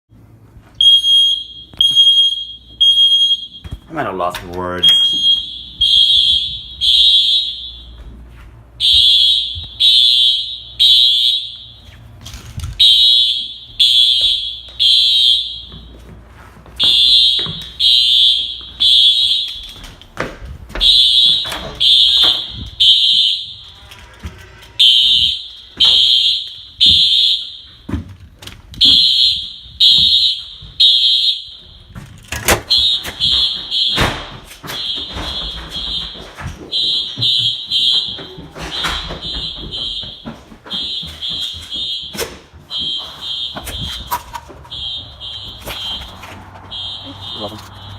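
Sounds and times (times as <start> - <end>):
fire alarm beeps: 0.8 - 3.9, 4.7 - 16.2, 16.8 - 24.0, 24.7 - 28.0, 28.8 - 47.9.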